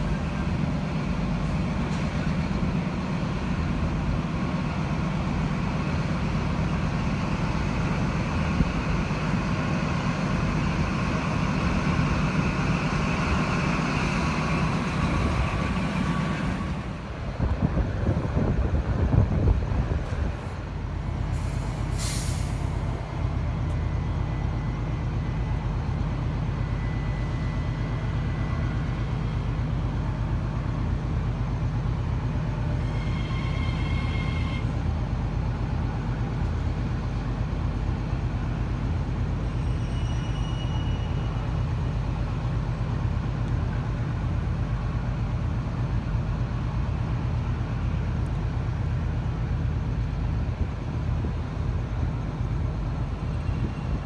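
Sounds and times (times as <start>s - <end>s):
train equipment humming: 0.0s - 54.0s.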